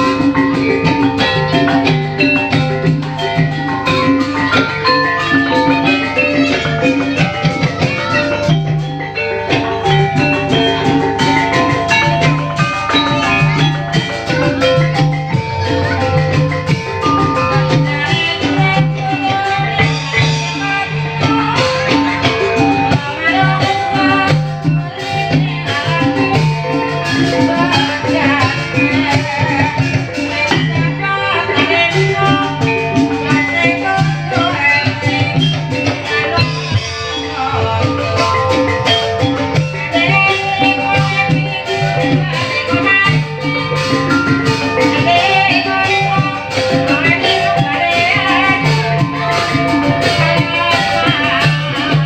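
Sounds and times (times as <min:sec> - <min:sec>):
repeating drum pattern: 0:00.0 - 0:52.0
tuned mallet percussion melody: 0:00.0 - 0:52.0.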